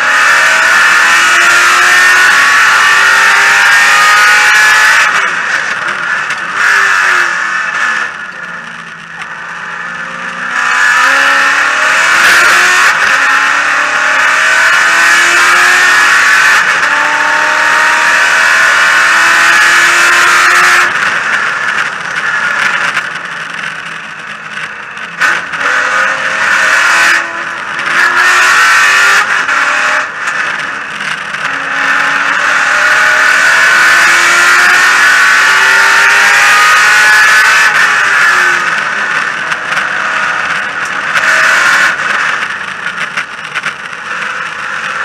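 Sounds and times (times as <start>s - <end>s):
race car engine accelerating: 0.0s - 23.9s, 24.5s - 45.0s.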